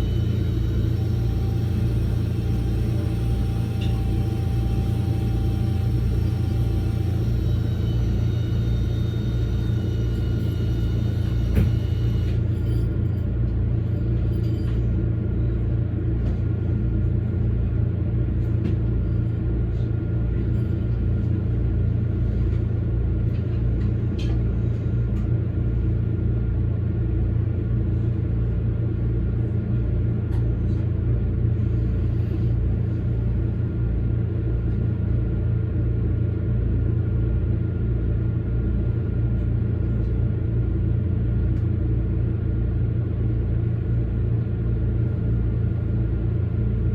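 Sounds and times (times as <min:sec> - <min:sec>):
electric train rumbling on rails: 0:00.0 - 0:46.9.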